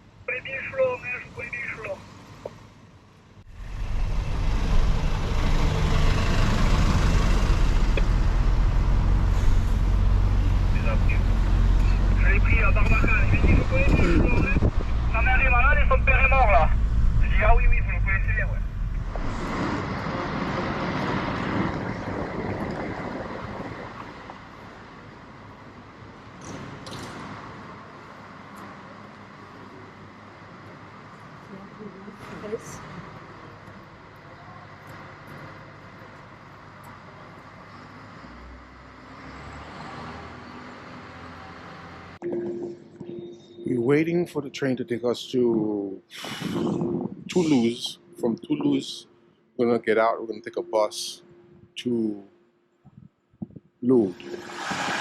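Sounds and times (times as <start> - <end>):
motor vehicle rumble with road noise: 0.0 - 44.6, 45.3 - 49.1, 52.8 - 55.0
outdoor traffic: 0.0 - 55.0.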